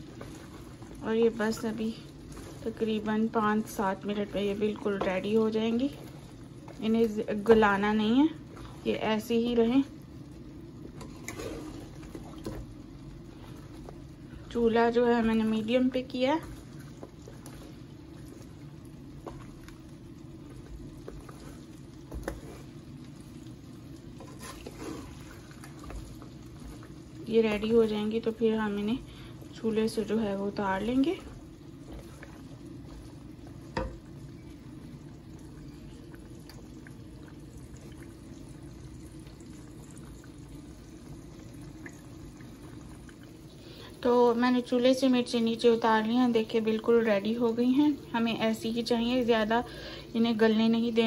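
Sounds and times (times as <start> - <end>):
low steady rumble: 0.0 - 51.0
oil bubbling with pops: 0.0 - 51.0.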